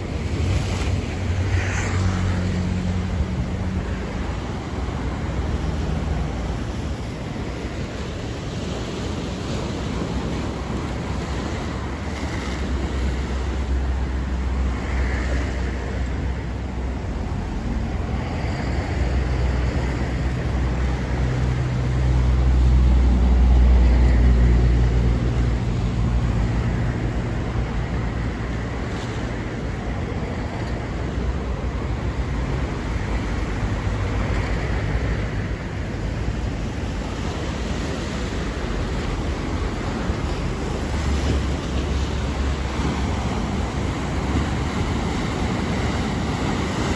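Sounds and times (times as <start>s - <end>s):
deep surf rumble: 0.0s - 8.4s, 9.3s - 46.9s
waves breaking: 0.0s - 46.9s.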